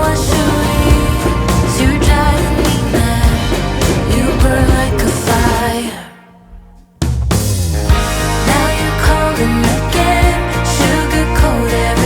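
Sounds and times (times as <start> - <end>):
song with guitar and beat: 0.0 - 12.0.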